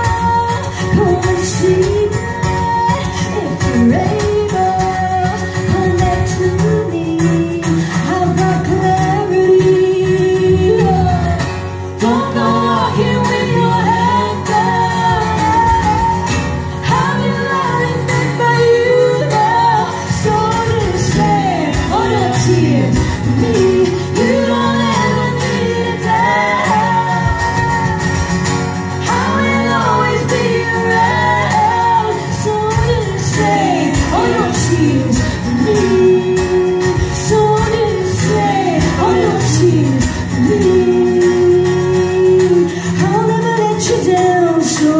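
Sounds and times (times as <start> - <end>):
acoustic guitars: 0.0 - 44.9
women singing: 0.0 - 44.9.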